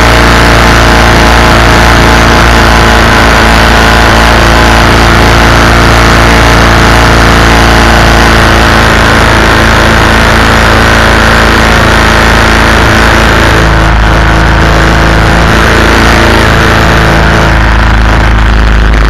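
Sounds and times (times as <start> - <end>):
engine running loud: 0.0 - 19.0.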